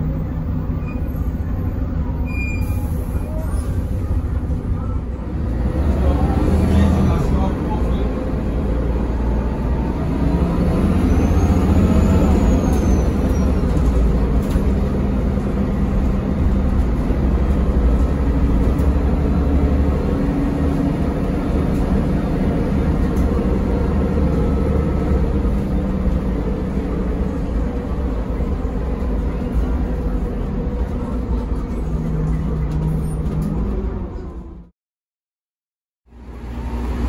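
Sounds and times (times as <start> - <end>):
bus engine rumble: 0.0 - 34.7, 36.1 - 37.0.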